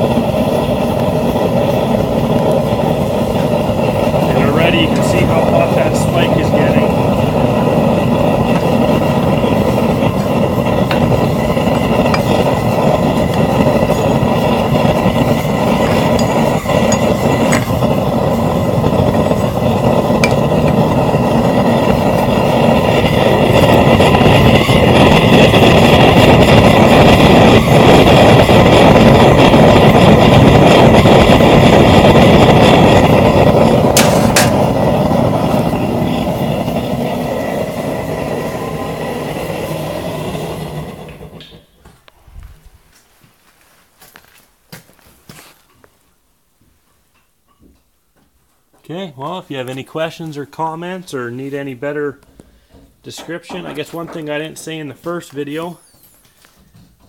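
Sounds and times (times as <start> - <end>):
forge burner rushing: 0.0 - 45.4, 48.1 - 57.0.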